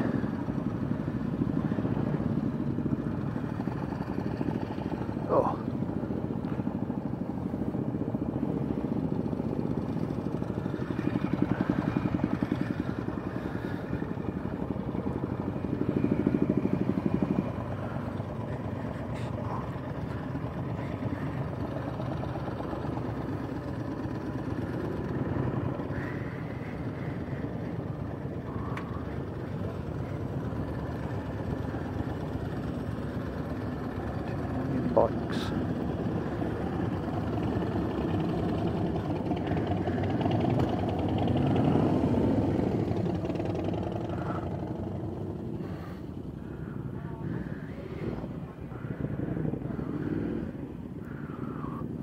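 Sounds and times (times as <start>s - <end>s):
motorcycle engines running: 0.0s - 52.0s.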